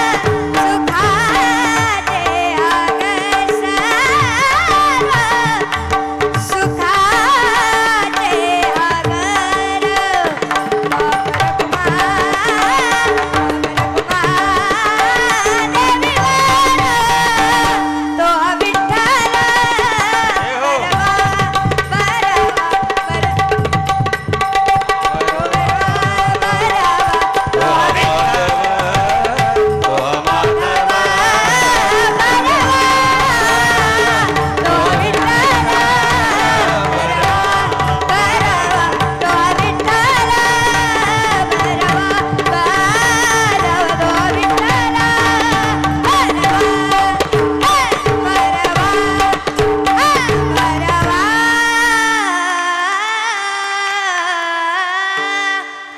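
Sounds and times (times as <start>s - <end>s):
tabla rhythm: 0.0s - 55.9s.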